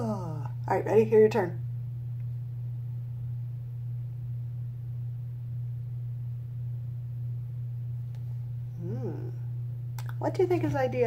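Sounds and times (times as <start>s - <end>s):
low-pitched hum: 0.0s - 11.0s.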